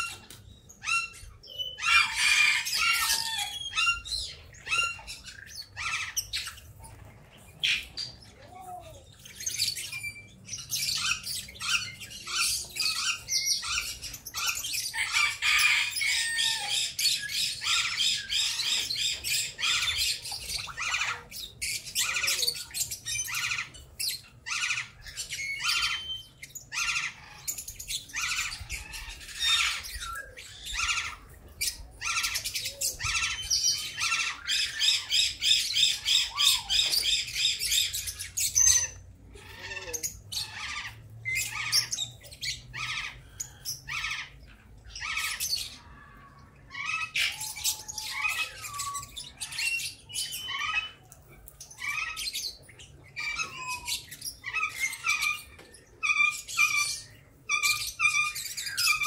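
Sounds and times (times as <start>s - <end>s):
parrots chattering and squawking: 0.0s - 59.0s.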